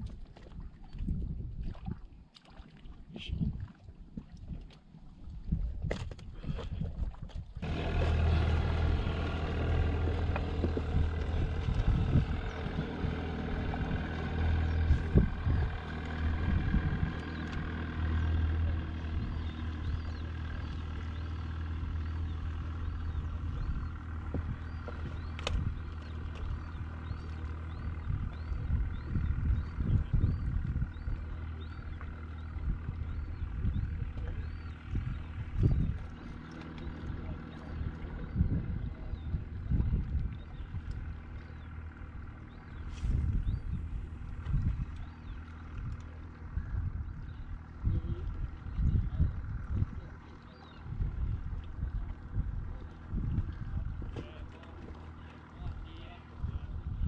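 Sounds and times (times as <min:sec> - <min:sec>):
low mechanical drone: 0:05.3 - 0:57.0.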